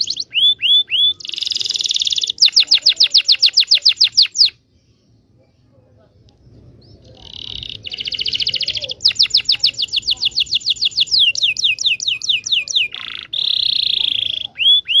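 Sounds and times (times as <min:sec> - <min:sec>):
canary singing trills: 0:00.0 - 0:05.5, 0:06.5 - 0:15.0.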